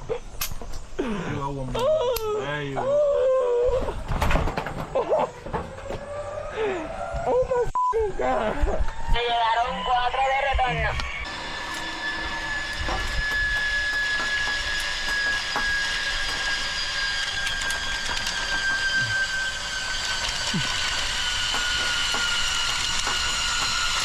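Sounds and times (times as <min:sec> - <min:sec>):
zipline pulleys whining on cable: 0:01.8 - 0:24.0.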